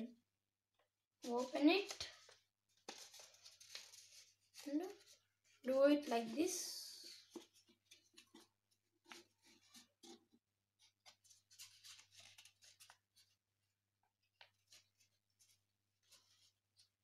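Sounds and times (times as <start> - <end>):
paper rustling and crinkling: 1.2 - 6.4, 7.0 - 13.4, 14.2 - 17.0.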